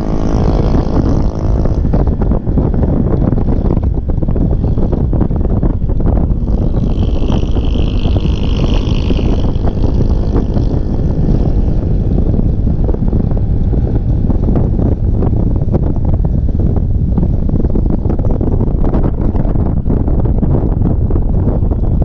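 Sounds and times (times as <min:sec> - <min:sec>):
scooter engine and tyre noise: 0:00.0 - 0:22.0
wind buffeting microphone: 0:00.0 - 0:22.0.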